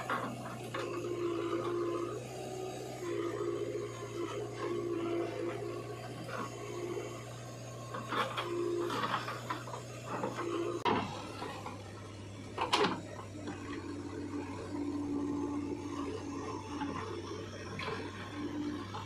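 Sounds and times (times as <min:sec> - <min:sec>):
diesel engine running: 0:00.0 - 0:19.0
hydraulic whine: 0:00.0 - 0:19.0.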